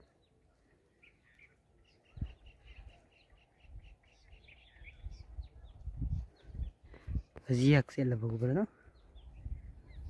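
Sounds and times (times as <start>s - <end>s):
bird chirping: 0.0s - 7.4s, 8.8s - 10.0s.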